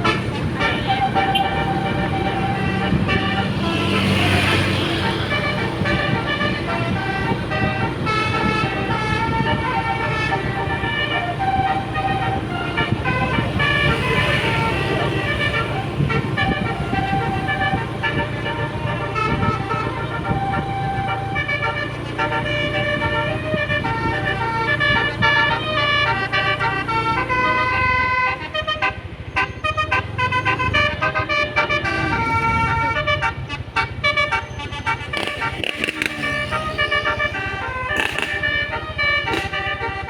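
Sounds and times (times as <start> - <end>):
bus engine running: 0.0 - 40.0
bus trumpet horns playing melody: 0.0 - 40.0.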